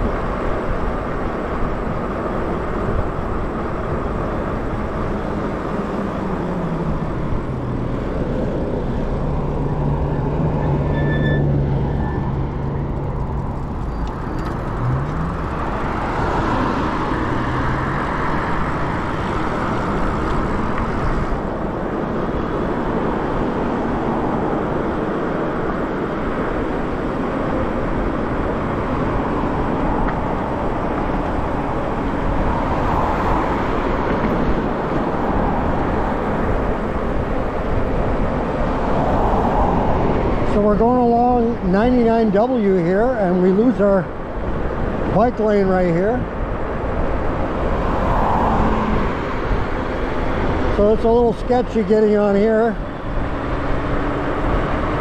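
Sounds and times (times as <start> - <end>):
wind rush on microphone: 0.0 - 10.6, 12.3 - 55.0
road noise from electric bike: 0.0 - 55.0
traffic passing: 0.0 - 55.0.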